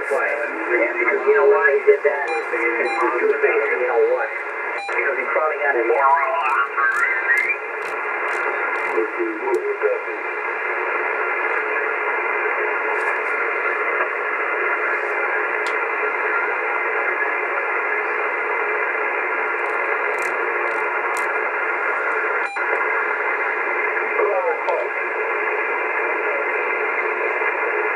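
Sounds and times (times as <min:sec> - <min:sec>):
radio static: 0:00.0 - 0:27.9.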